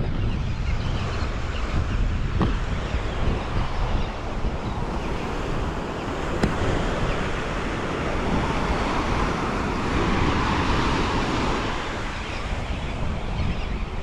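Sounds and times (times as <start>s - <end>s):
ocean waves breaking on beach: 0.0s - 14.0s
wind buffeting microphone: 0.0s - 14.0s.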